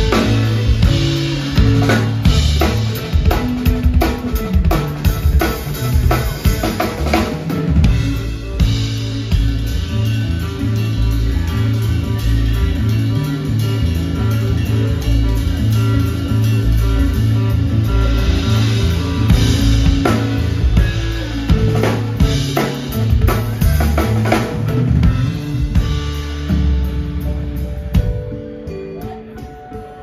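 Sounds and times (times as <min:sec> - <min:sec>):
bass line: 0:00.0 - 0:29.7
drum kit beat: 0:00.0 - 0:30.0
guitar: 0:00.0 - 0:30.0
keyboards: 0:00.0 - 0:30.0.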